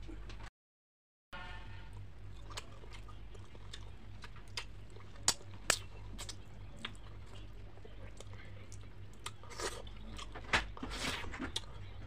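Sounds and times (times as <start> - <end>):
steady low hum: 1.4 - 12.0
person chewing: 2.0 - 11.8.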